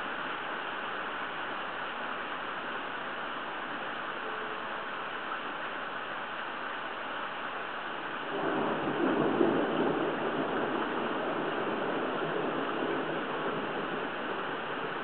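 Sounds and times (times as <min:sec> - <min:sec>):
hurricane wind and rain: 0:00.0 - 0:15.0.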